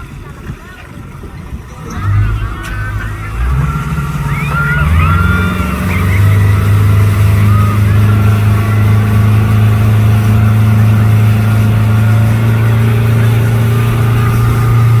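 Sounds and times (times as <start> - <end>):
speedboat engine droning: 0.0 - 15.0.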